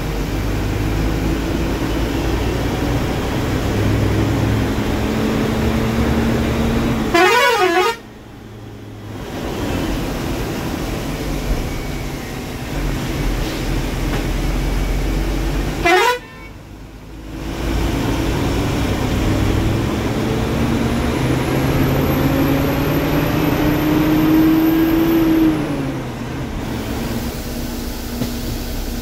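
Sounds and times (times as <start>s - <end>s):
bus diesel engine: 0.0s - 29.0s
road noise: 0.0s - 29.0s.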